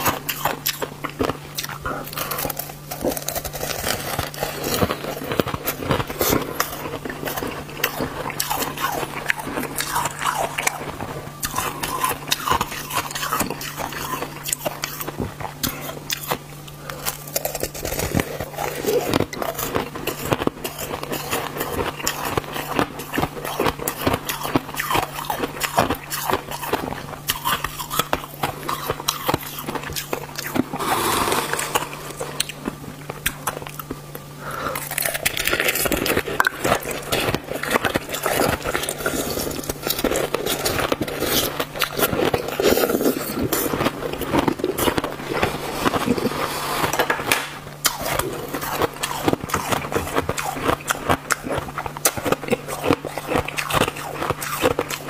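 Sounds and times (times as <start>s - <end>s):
chewing crunchy ice: 0.0s - 55.0s
steady low hum: 0.0s - 55.0s.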